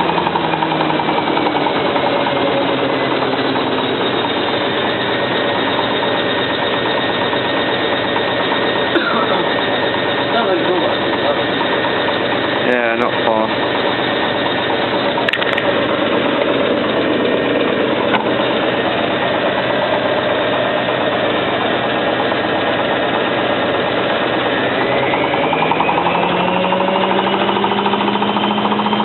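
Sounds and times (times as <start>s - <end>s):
motor whine rising: 0.0s - 29.0s
washing machine spinning: 0.0s - 29.0s.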